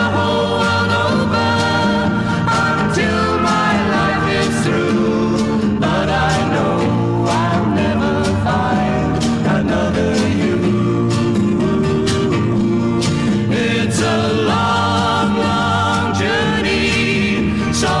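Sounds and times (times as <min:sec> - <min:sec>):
person singing: 0:00.0 - 0:18.0
strummed guitar: 0:00.0 - 0:18.0.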